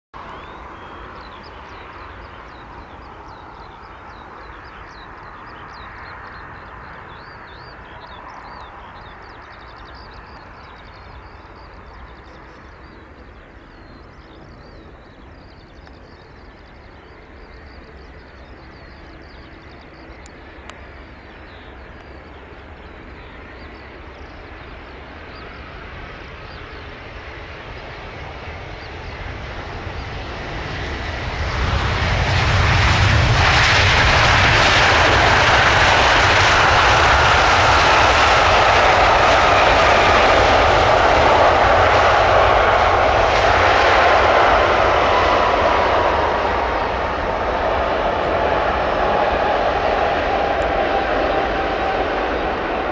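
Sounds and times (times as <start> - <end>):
jet engine roar: 0.2 - 52.9
jet engine whine falling in pitch: 0.2 - 52.9.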